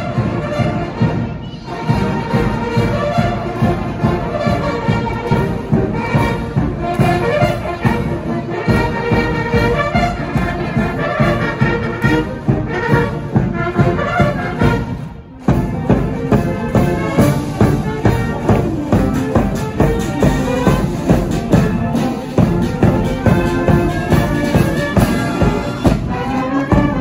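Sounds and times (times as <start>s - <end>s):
brass band playing a march: 0.0s - 27.0s
steady drum beat: 0.0s - 27.0s.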